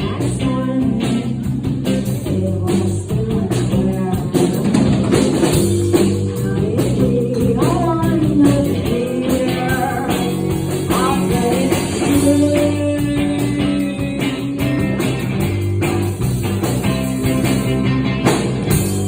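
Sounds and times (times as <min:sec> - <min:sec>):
person singing: 0:00.0 - 0:15.4
drums: 0:00.0 - 0:19.0
guitar: 0:00.0 - 0:19.0.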